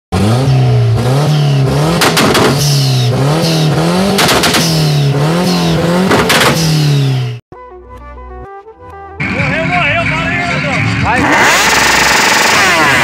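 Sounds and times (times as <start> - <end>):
car engine revving: 0.1 - 7.4, 9.2 - 13.0.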